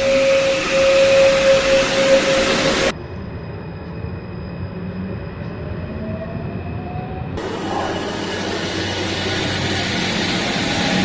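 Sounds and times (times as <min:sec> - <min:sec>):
loud electric train whine: 0:00.0 - 0:11.0
train whine rising in pitch: 0:00.0 - 0:11.0.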